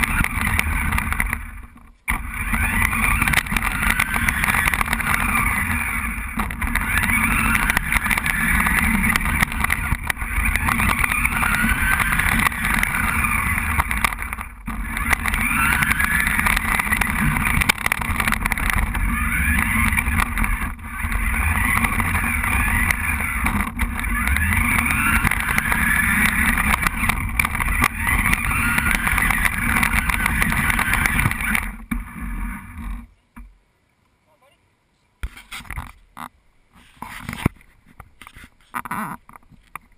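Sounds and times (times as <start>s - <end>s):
toy car electric motor whining: 0.0s - 33.1s.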